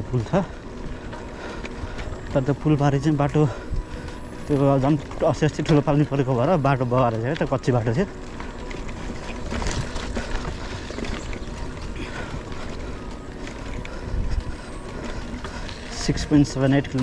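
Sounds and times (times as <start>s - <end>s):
bicycle tyre and road noise: 0.0s - 17.0s
wind buffeting microphone: 0.0s - 17.0s.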